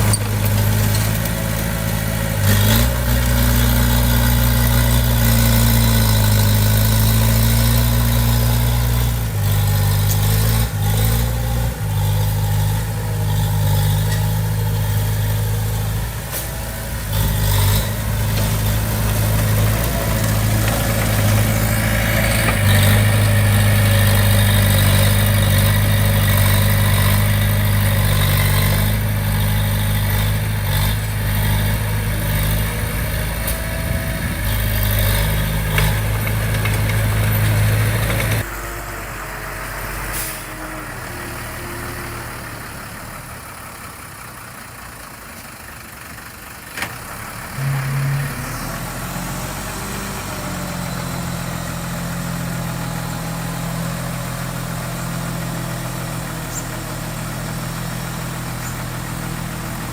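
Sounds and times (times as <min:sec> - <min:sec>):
earthmoving equipment diesel engine: 0:00.0 - 0:59.9.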